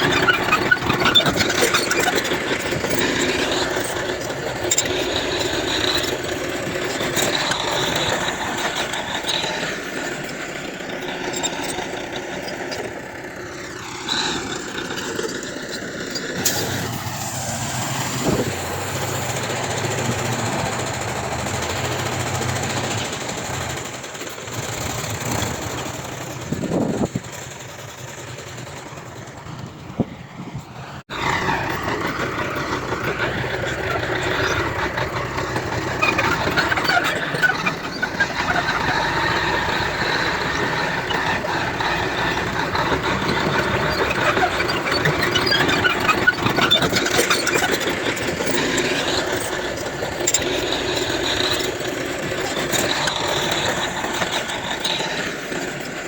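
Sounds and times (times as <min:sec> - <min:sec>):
metallic squeaks and clanks: 0:00.0 - 0:27.6, 0:31.2 - 0:56.0
heavy machinery engine running: 0:00.0 - 0:56.0.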